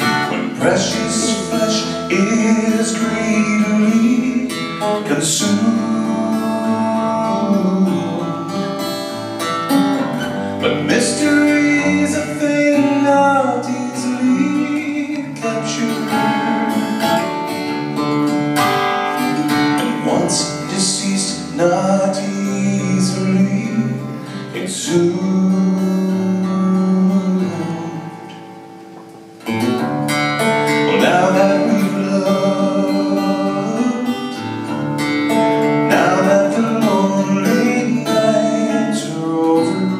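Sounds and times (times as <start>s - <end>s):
man singing: 0.0s - 9.2s, 10.2s - 17.4s, 18.9s - 28.4s, 30.7s - 39.9s
strummed acoustic guitar: 0.0s - 39.9s.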